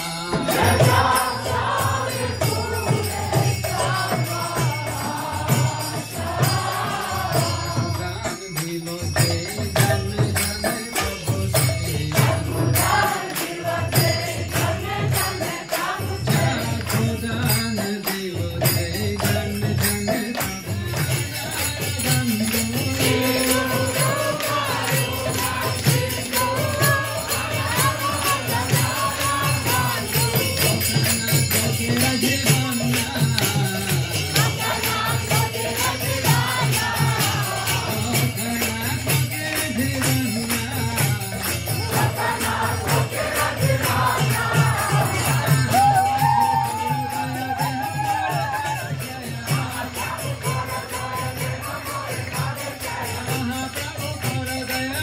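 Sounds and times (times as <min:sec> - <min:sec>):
group singing a chant: 0:00.0 - 0:55.0
hand cymbals ringing: 0:00.0 - 0:55.0.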